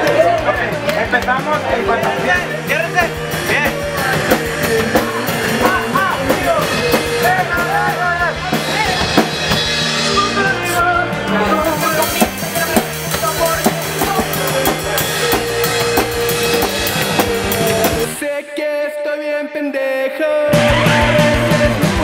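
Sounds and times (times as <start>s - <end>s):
bass guitar: 0.0s - 18.2s, 20.5s - 22.0s
drum kit: 0.0s - 18.2s, 20.5s - 22.0s
person singing: 3.1s - 9.2s, 9.9s - 22.0s.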